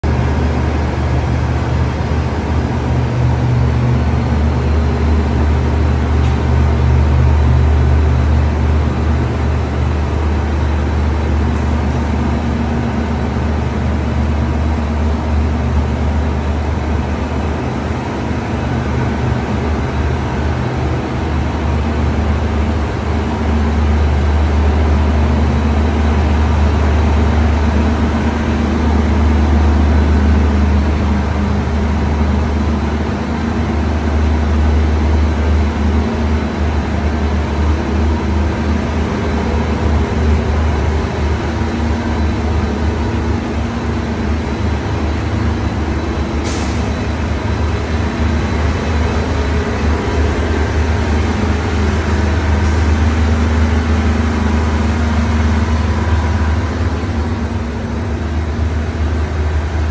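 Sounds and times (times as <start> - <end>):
diesel train engine hum: 0.0 - 59.9.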